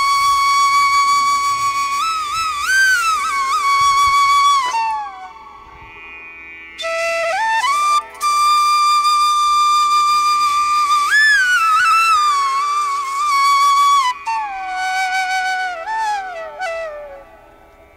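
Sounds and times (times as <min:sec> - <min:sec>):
slow flute-like melody: 0:00.0 - 0:06.0, 0:06.8 - 0:17.9.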